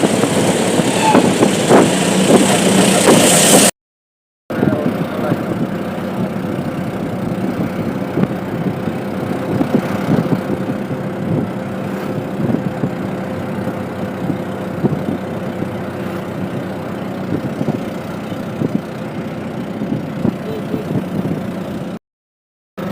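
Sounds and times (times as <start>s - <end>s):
auto-rickshaw engine running: 0.0s - 3.7s, 4.5s - 22.0s
vehicle rattles and knocks: 0.0s - 3.7s, 4.5s - 22.0s.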